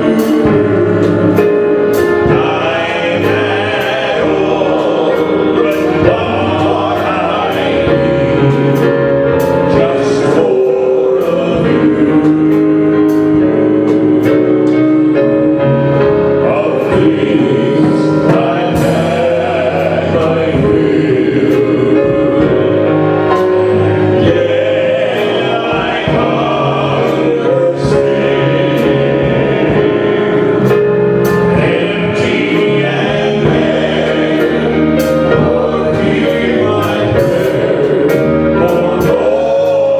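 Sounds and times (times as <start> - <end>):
instrumental accompaniment: 0.0 - 39.9
voices singing together: 0.0 - 39.9.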